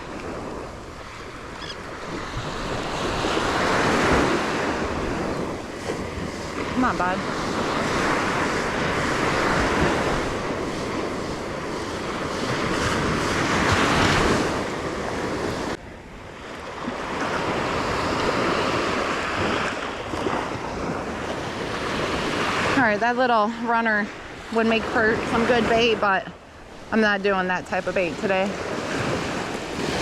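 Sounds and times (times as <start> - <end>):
ocean surf washing onto beach: 0.0 - 30.0
wind buffeting microphone: 0.0 - 30.0.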